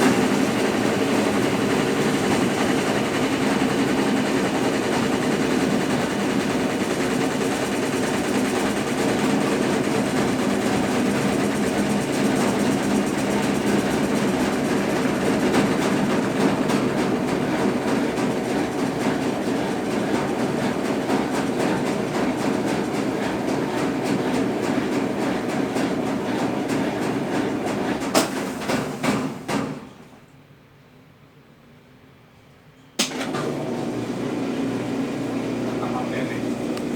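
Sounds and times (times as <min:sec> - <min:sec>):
washing machine agitating: 0:00.0 - 0:30.2, 0:33.0 - 0:36.9.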